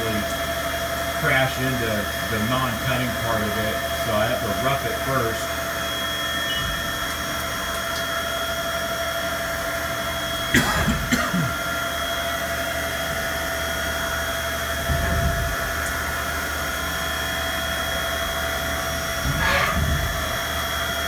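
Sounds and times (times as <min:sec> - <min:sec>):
milling machine spindle whine: 0:00.0 - 0:21.0.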